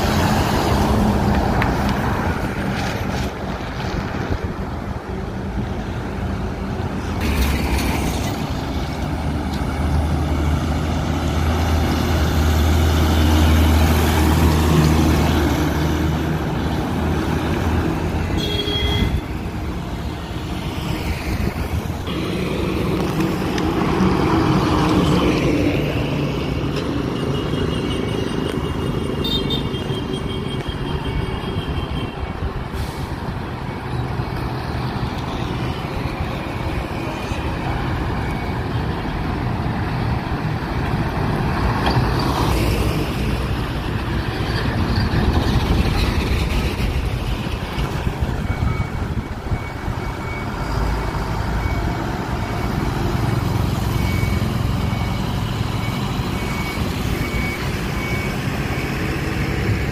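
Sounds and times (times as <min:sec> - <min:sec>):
diesel trucks passing: 0:00.0 - 0:59.9
tyre and traffic noise: 0:00.0 - 0:59.9.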